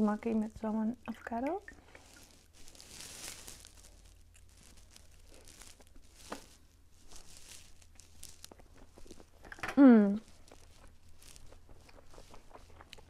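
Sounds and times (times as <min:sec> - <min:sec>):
chewing sushi: 0:01.7 - 0:13.0.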